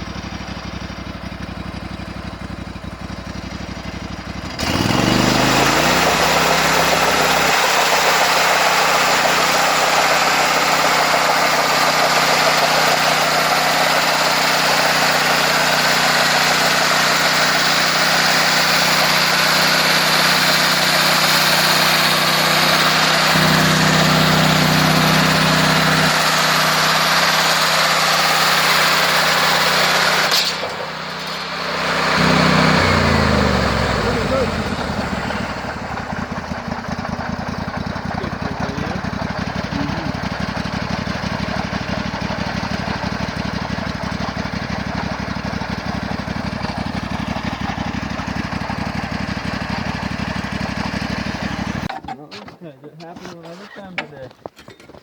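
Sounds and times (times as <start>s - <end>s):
sawmill engine revving: 0.0s - 51.9s.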